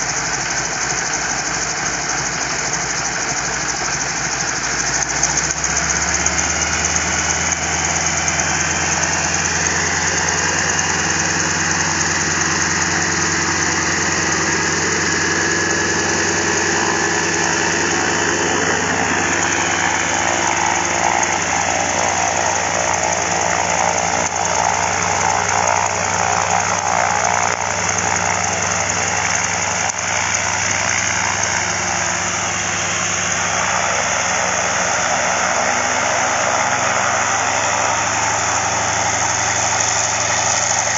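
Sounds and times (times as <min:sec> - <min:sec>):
radial aircraft engine idling: 0:00.0 - 0:40.9.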